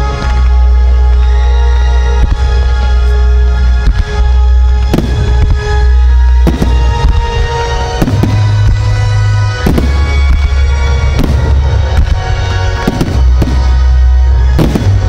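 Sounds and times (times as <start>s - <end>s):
loud music with deep bass: 0.0s - 15.0s
fireworks banging: 2.2s - 15.0s.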